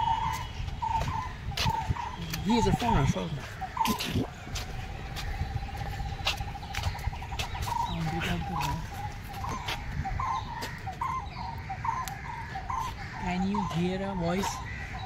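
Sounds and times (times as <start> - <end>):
bird calling with trill and notes: 0.0 - 15.0.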